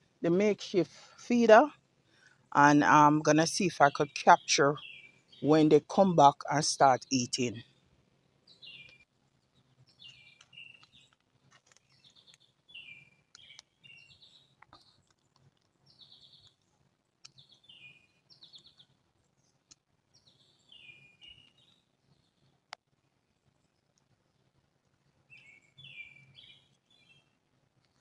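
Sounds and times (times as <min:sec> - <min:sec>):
songbirds chirping faintly: 0:00.0 - 0:28.0.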